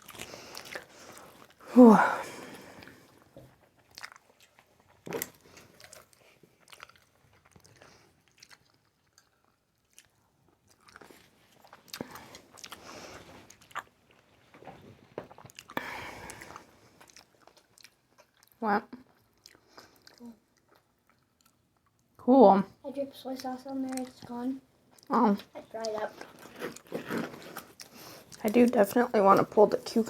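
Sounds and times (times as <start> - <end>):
person chewing food: 0.0 - 22.2, 23.4 - 28.7.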